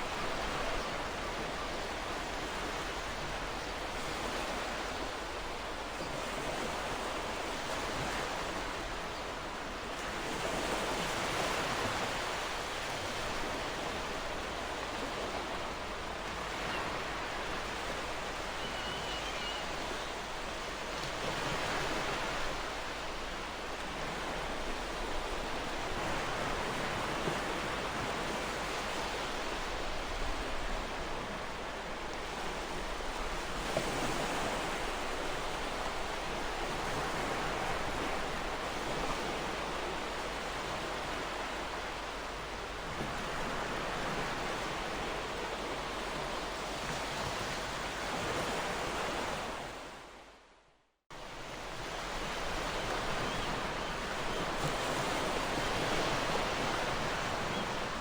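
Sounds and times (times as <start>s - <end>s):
ocean waves breaking on shore: 0.0s - 50.2s, 51.1s - 58.0s.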